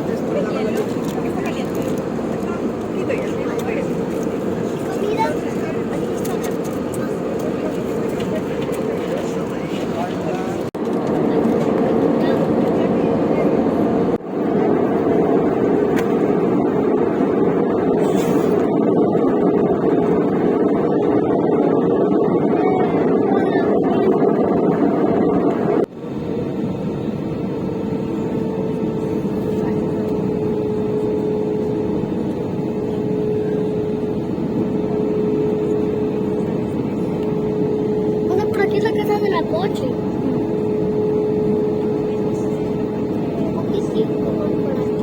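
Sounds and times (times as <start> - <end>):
airplane cabin engine drone: 0.0 - 45.0
constant hum tone: 0.0 - 45.0.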